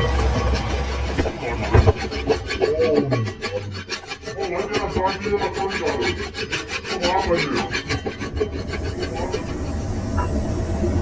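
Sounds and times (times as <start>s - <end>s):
metal being rasped: 0.0s - 10.3s.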